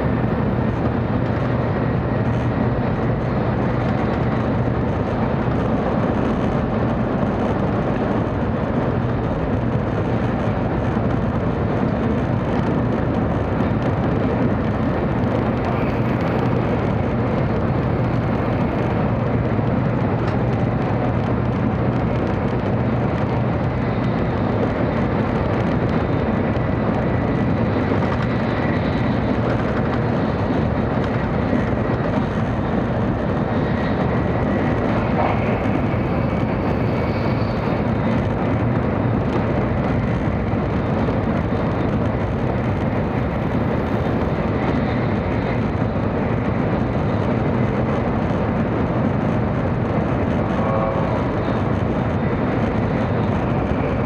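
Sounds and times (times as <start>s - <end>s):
train cabin rumble and hiss: 0.0s - 54.0s.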